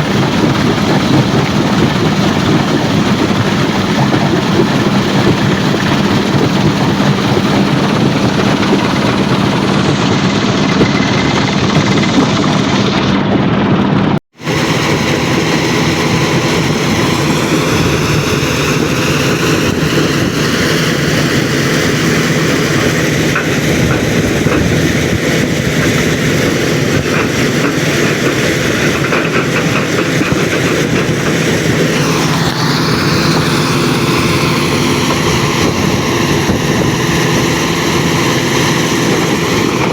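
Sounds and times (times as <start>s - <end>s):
heavy machinery engine drone: 0.0s - 39.9s
machinery clattering: 0.0s - 39.9s.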